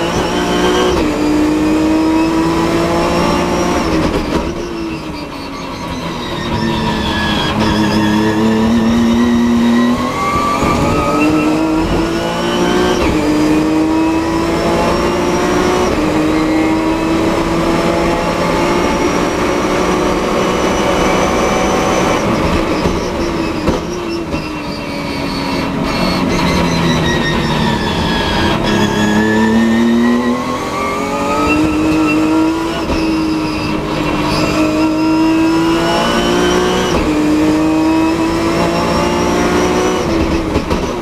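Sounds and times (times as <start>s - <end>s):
race car engine at full throttle: 0.0s - 41.0s.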